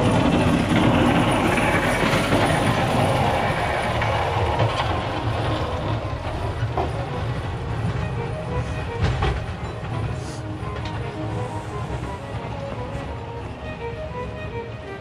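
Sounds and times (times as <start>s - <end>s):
snowplow metal clatter: 0.0s - 13.3s
tractor engine rumble: 0.0s - 14.8s.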